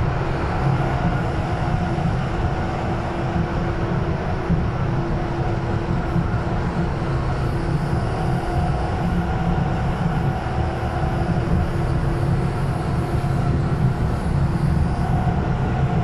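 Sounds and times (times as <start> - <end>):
train motor whine: 0.0 - 16.0
train wheels rumbling: 0.0 - 16.0.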